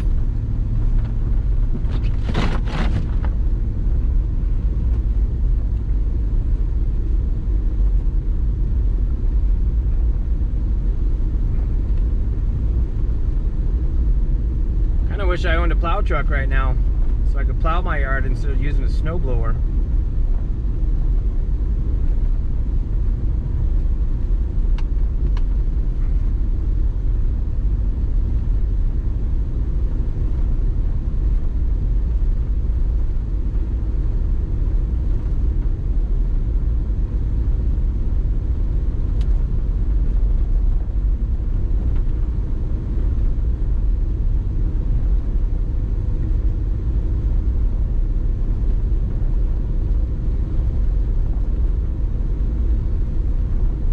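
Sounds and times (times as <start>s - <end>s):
vehicle engine and tyre rumble: 0.0s - 53.9s.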